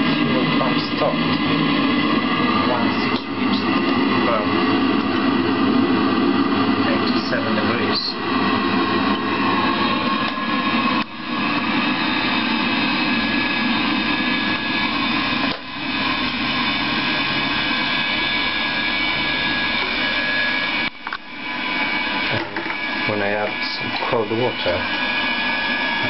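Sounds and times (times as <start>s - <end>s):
diesel heater fan whirring: 0.0s - 26.0s.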